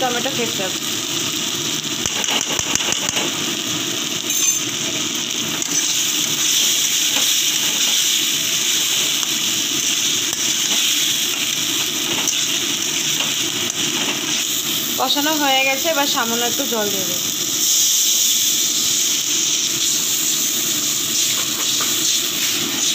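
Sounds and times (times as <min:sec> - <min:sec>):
paste sizzling in oil: 0:00.0 - 0:22.9.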